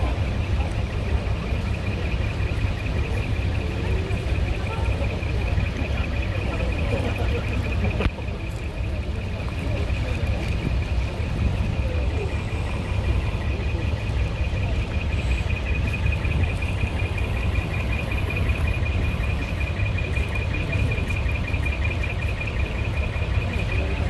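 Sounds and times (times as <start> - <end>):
truck engines idling: 0.0 - 24.0.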